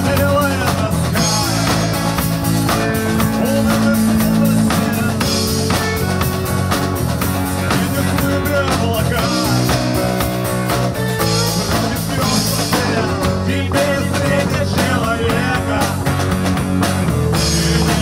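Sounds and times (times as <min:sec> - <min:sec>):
man singing: 0:00.0 - 0:06.6, 0:07.2 - 0:16.2, 0:17.4 - 0:18.0
strummed acoustic guitar: 0:00.0 - 0:16.4
bass guitar: 0:00.0 - 0:18.0
drum kit with cymbals: 0:00.0 - 0:18.0
electric guitar: 0:00.0 - 0:18.0.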